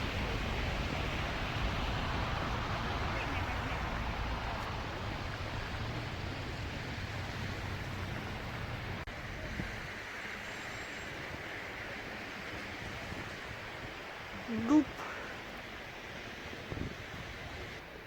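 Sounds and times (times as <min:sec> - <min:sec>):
blizzard wind rumbling: 0:00.0 - 0:18.0
wind buffeting microphone: 0:00.0 - 0:18.0.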